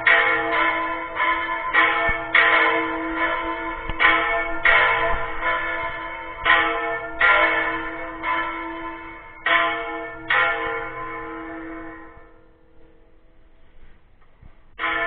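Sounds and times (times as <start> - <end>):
church bell ringing: 0.0 - 13.5, 14.7 - 15.0.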